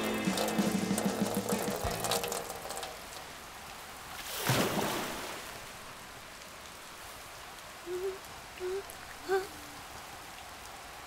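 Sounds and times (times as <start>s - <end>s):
soft hiss of falling rain: 0.0s - 11.0s.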